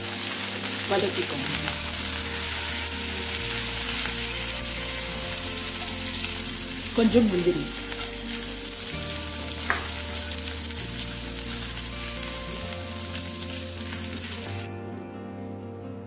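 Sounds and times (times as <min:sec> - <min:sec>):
ghee sizzling in a pan: 0:00.0 - 0:14.7.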